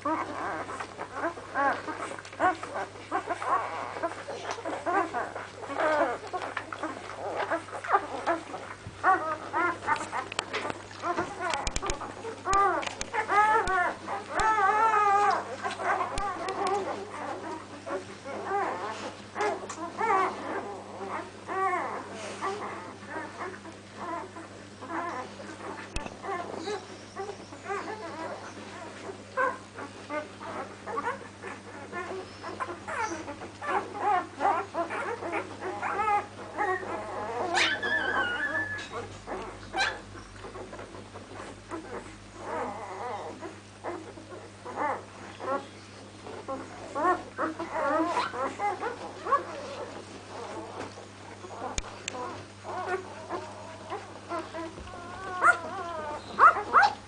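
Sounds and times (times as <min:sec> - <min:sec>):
puppies whimpering and squeaking: 0:00.0 - 0:57.0
steady low hum: 0:00.0 - 0:57.0.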